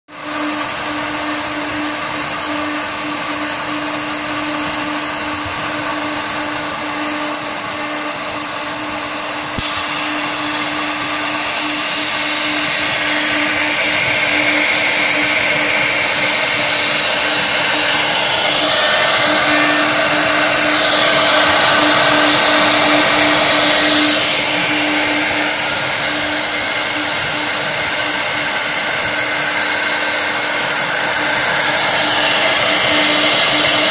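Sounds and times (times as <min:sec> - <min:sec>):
wood router spindle hum: 0:00.1 - 0:33.9
router bits hissing in wood: 0:00.2 - 0:33.9.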